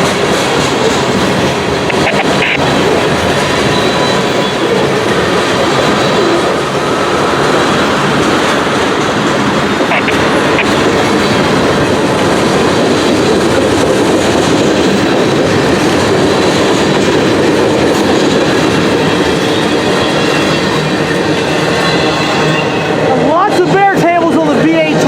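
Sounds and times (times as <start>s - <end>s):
freight train cars rolling past: 0.0s - 25.0s.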